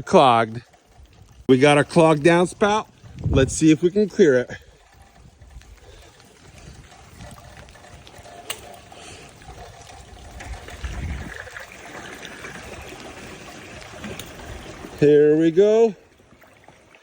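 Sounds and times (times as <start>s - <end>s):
water trickling in gutter: 0.0s - 17.0s.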